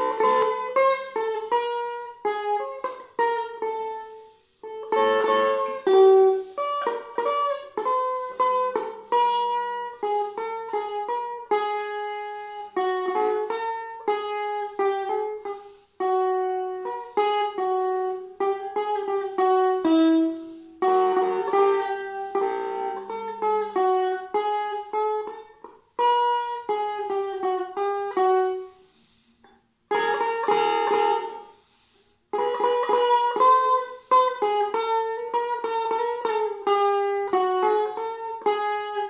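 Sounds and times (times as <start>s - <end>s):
electric guitar melody: 0.0s - 29.2s, 29.9s - 39.0s.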